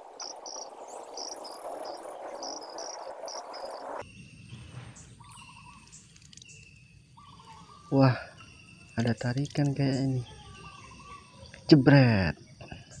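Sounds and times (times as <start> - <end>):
insect trills: 0.0 - 4.5, 5.2 - 13.0
insects chirping in short pulses: 0.0 - 13.0.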